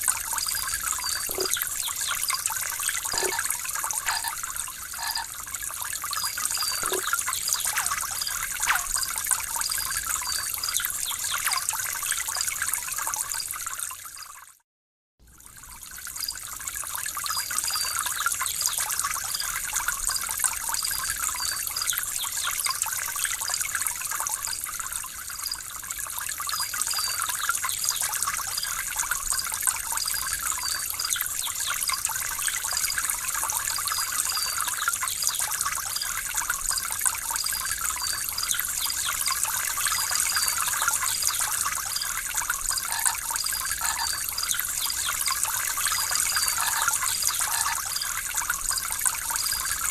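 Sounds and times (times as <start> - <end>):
water trickling and splashing: 0.0 - 14.6, 15.2 - 49.9.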